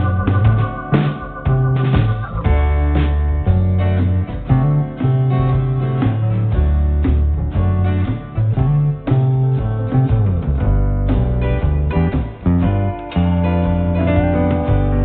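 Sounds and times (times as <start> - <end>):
deep bass line: 0.0 - 15.0
plucked acoustic guitar: 0.0 - 15.0.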